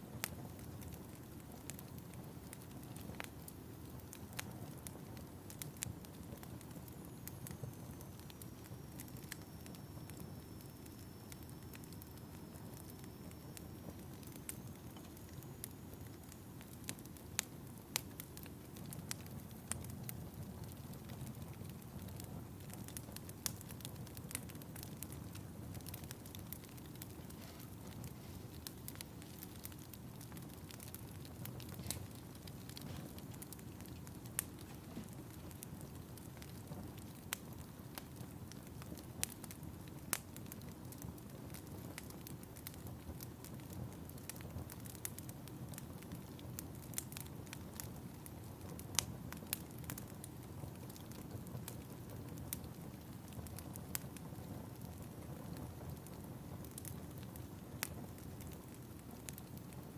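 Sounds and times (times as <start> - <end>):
low rumble of flames: 0.0 - 59.9
sharp pops of fire: 0.0 - 59.9
wood fire crackling: 0.0 - 59.9.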